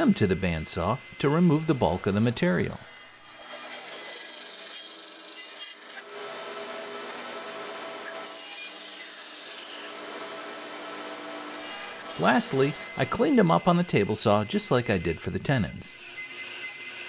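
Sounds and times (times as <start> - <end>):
bandsaw cutting wood: 0.0 - 15.4
faint saw hum: 0.0 - 17.0.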